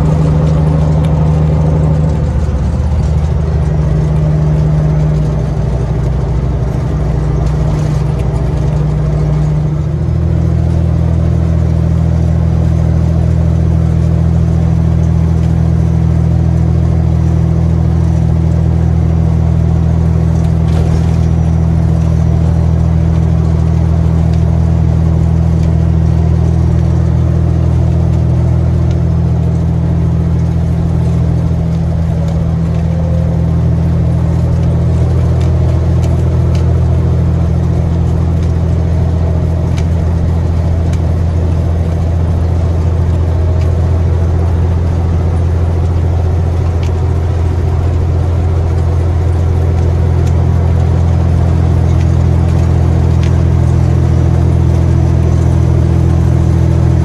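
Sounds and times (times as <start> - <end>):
diesel truck engine at road speed: 0.0 - 57.0.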